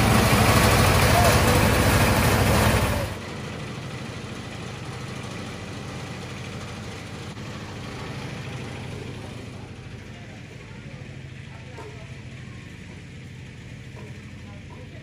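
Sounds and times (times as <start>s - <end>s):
thresher engine pulsing: 0.0s - 15.0s.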